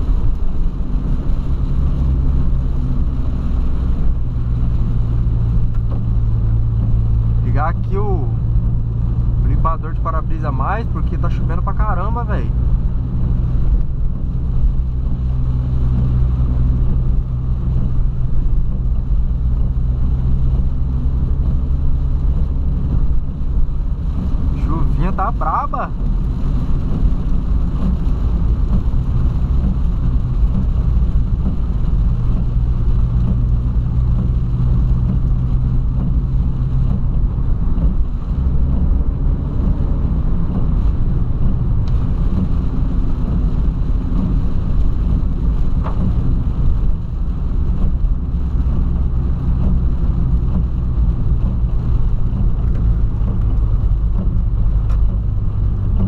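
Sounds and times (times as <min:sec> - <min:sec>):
car engine drone: 0:00.0 - 0:56.0
tyres rushing on wet road: 0:00.0 - 0:56.0.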